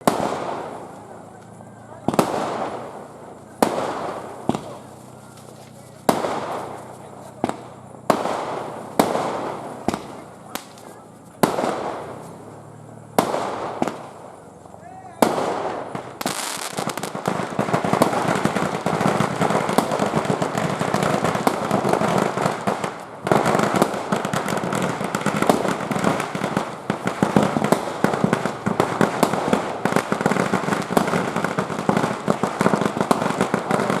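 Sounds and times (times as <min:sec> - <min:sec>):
fireworks crackling: 0:00.0 - 0:34.0.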